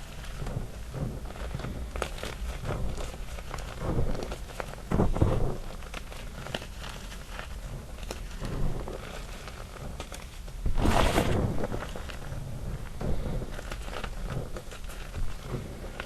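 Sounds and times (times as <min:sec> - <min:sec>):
chalk chunks crushed by hand: 0:00.0 - 0:16.0.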